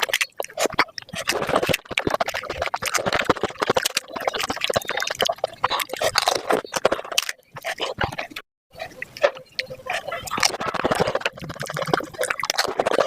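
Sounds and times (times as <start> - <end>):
water slurped: 0.0 - 13.0.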